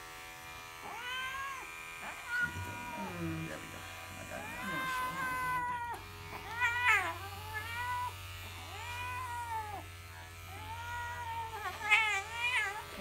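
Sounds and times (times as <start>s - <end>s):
electric clippers humming: 0.0s - 13.0s
cat yowling: 0.8s - 3.6s, 4.2s - 13.0s.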